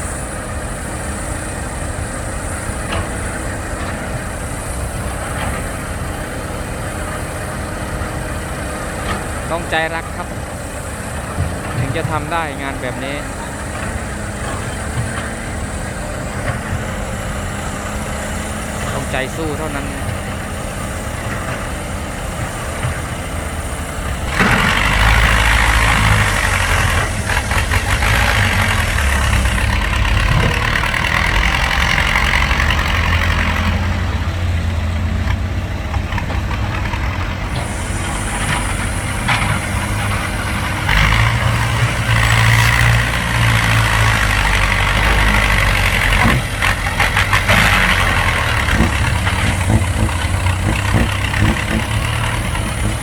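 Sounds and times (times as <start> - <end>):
heavy diesel engine labouring: 0.0 - 53.0.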